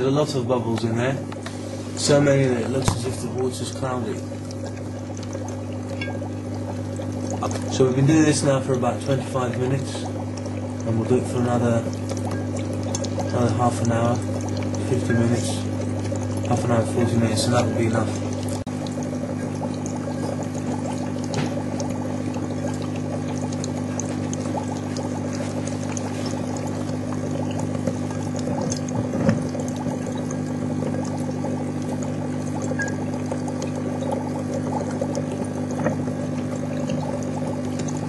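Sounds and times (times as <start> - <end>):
small pump humming: 0.0 - 38.0
water fizzing and bubbling: 0.0 - 38.0.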